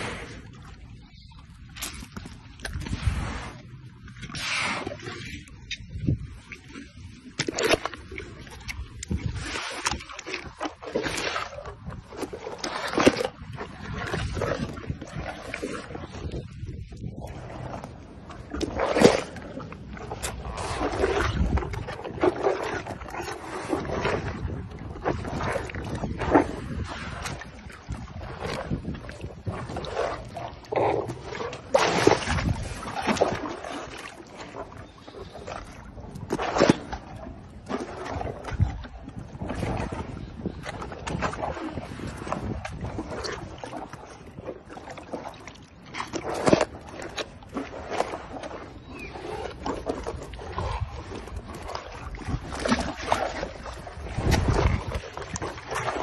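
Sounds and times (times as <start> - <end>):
hippopotamus chewing: 0.0 - 44.7, 45.8 - 56.0.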